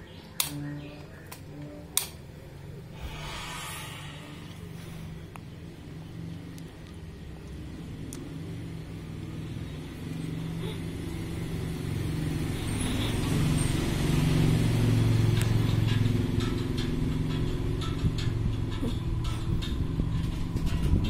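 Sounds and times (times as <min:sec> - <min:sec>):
desk fan running: 0:00.0 - 0:21.0.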